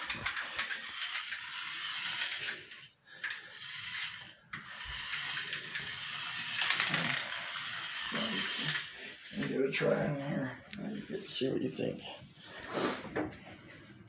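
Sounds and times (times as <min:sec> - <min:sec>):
toy car motor whirring: 0:00.0 - 0:11.4.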